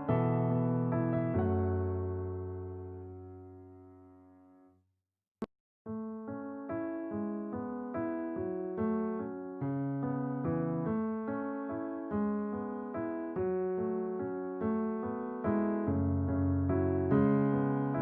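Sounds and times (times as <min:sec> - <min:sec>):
slow piano keyboard music: 0:00.0 - 0:04.6, 0:05.9 - 0:18.0.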